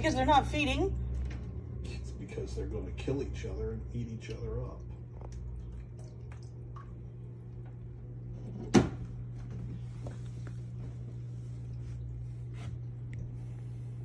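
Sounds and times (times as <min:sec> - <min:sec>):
low hum of aquarium equipment: 0:00.0 - 0:14.0.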